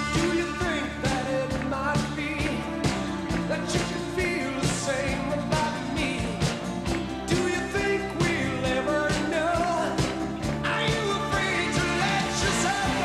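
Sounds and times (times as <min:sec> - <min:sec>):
male lead vocal: 0:00.0 - 0:06.6, 0:07.2 - 0:13.0
bass guitar: 0:00.0 - 0:13.0
drum beat: 0:00.0 - 0:13.0.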